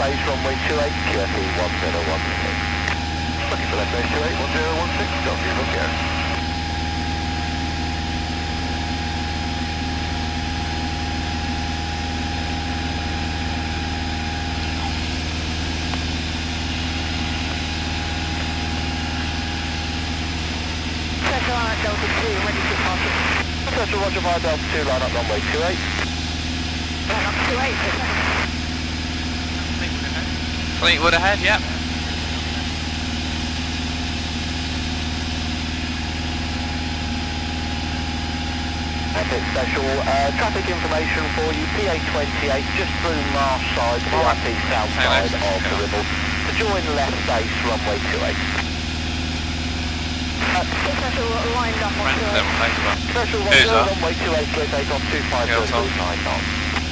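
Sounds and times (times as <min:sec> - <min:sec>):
aircraft piston engine humming: 0:00.0 - 0:56.9.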